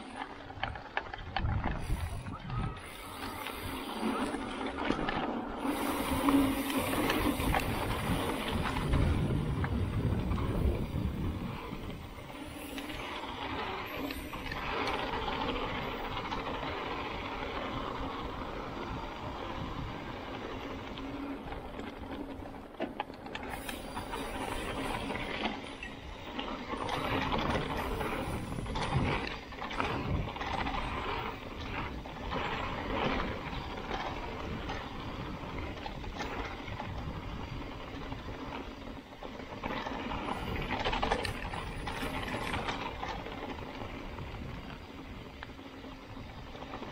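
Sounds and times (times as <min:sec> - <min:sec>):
bike chain and frame rattling: 0:00.0 - 0:46.9
bike tyres rumbling over rocks: 0:00.0 - 0:46.9.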